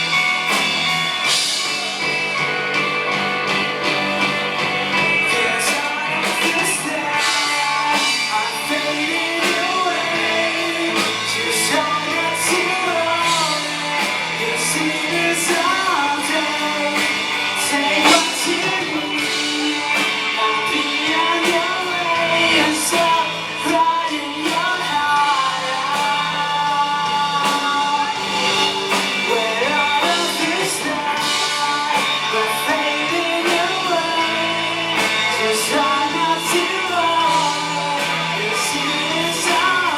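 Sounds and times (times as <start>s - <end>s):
lead singer: 0.0s - 39.9s
live rock band playing: 0.0s - 39.9s.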